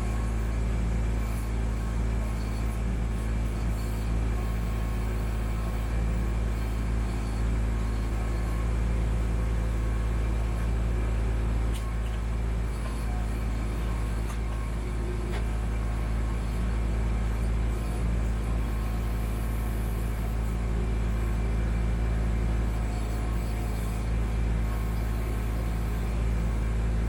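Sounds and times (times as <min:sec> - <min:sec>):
tractor diesel engine rumbling: 0:00.0 - 0:27.0.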